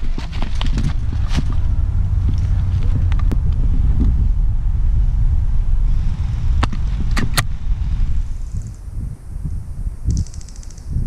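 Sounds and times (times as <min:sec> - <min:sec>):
low rumbling wind: 0:00.0 - 0:11.0
microphone handling noise: 0:00.0 - 0:11.0.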